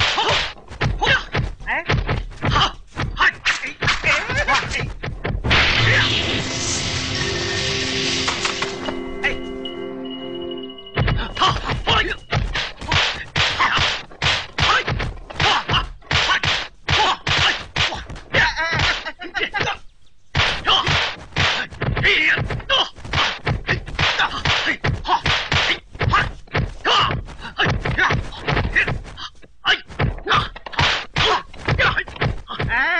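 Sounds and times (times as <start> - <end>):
fighters grunting and shouting: 0.0 - 5.1, 11.1 - 32.9
punches and blocks landing: 0.0 - 6.8, 11.0 - 29.2, 29.8 - 32.9.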